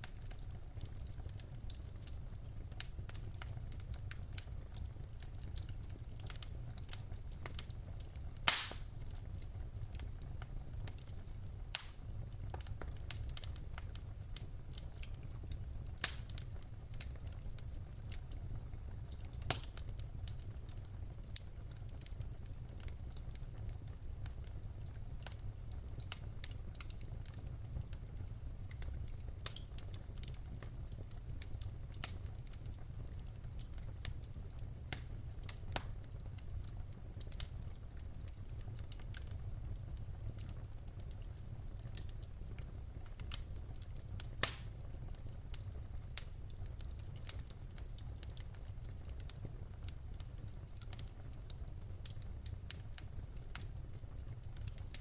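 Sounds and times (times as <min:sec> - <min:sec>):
logs crackling and popping: 0:00.0 - 0:55.0
low rumble of flames: 0:00.0 - 0:55.0.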